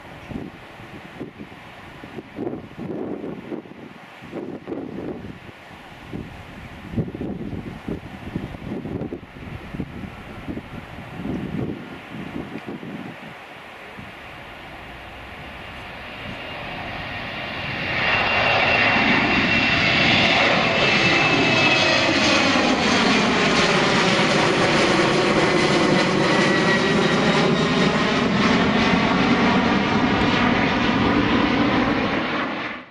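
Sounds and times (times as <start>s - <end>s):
jet engines roaring overhead: 0.0s - 32.9s.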